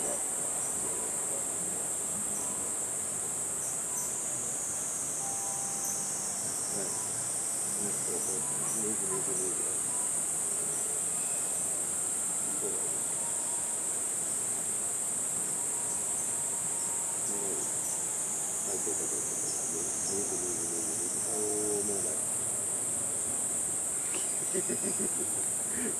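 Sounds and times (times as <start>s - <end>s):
insects droning in chorus: 0.0s - 25.9s.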